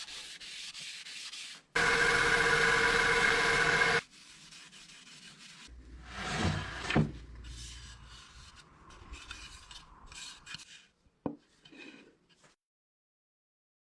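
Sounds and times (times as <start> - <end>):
wood rubbed and scraped by hand: 0.0 - 12.5.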